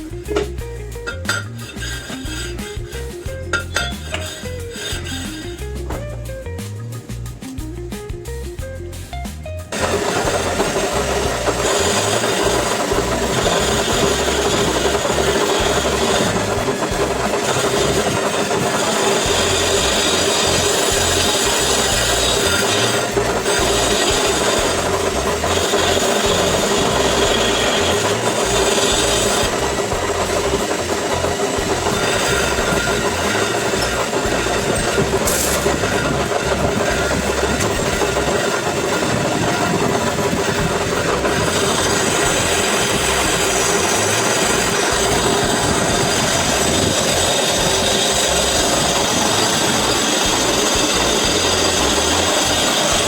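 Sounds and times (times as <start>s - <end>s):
lathe humming: 0.0s - 6.0s, 9.7s - 53.0s
cutting tool grinding brake disc: 0.0s - 6.2s, 9.7s - 53.0s.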